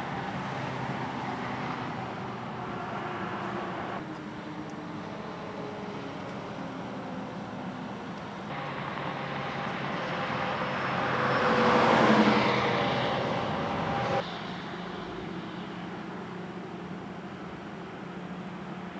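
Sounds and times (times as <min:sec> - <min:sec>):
vehicle passing on highway: 0:00.0 - 0:18.9.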